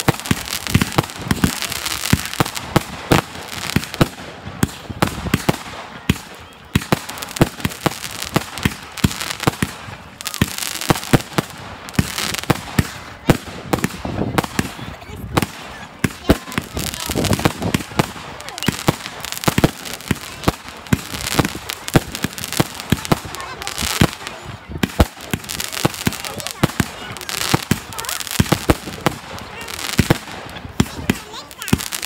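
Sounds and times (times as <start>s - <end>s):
fireworks bangs and pops: 0.0s - 32.0s.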